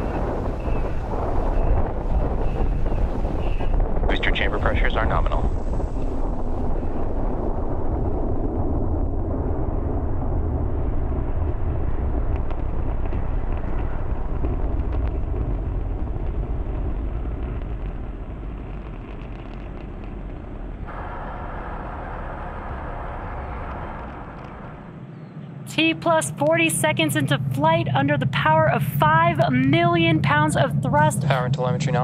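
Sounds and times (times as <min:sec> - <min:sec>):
rocket engines rumbling: 0:00.0 - 0:32.0.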